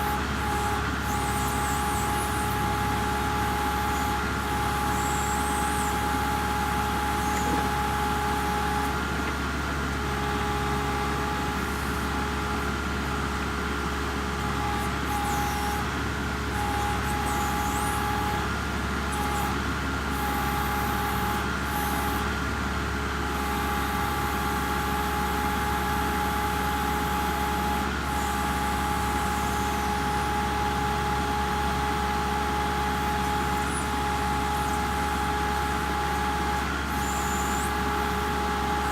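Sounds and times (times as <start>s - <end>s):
diesel tractor engine rumbling: 0.0s - 38.9s
steady engine whine: 0.0s - 38.9s.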